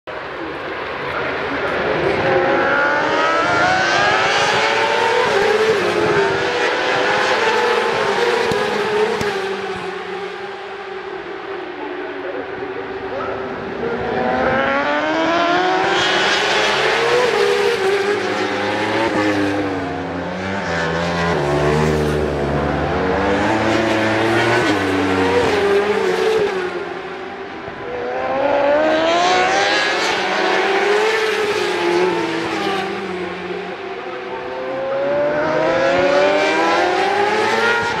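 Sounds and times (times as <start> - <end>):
racing motorcycles passing: 0.3 - 38.0.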